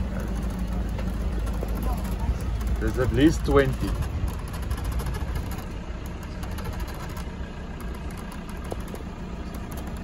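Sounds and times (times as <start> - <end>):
vehicle engine low rumble: 0.0 - 10.0.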